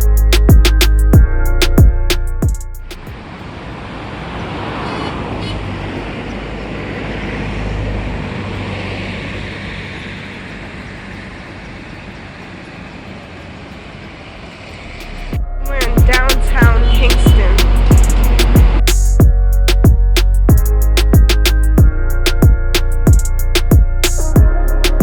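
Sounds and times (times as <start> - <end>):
road traffic rush: 0.0 - 25.0.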